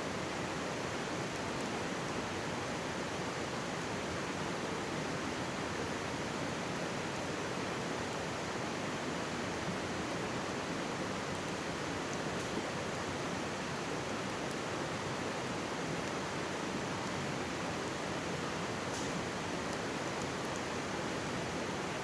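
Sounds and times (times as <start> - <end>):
faint campfire crackles: 0.2 - 21.9.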